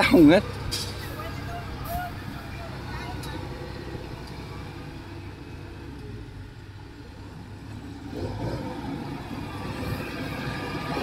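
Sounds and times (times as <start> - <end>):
harvester engines rumbling: 0.0 - 11.0.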